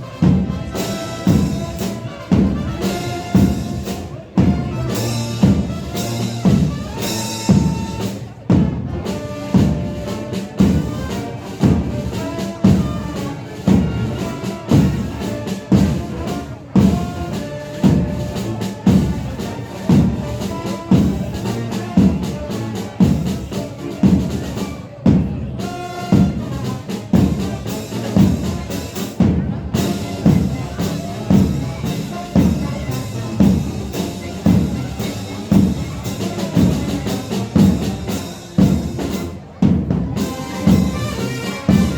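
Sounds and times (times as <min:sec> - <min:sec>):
bass drum and percussion beat: 0:00.0 - 0:41.9
brass melody: 0:00.0 - 0:41.9.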